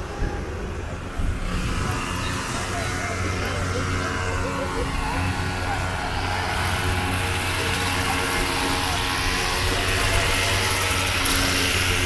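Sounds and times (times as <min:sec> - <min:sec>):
string trimmers running at high revs: 0:00.0 - 0:12.0.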